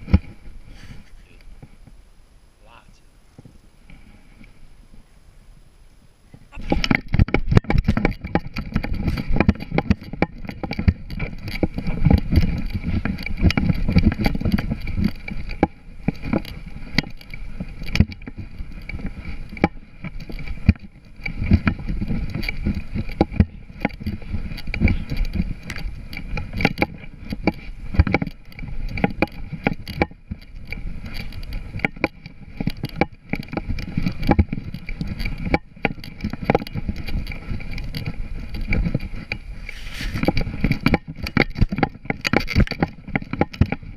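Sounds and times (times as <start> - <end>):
wind and body movement rumble: 0.0 - 43.9.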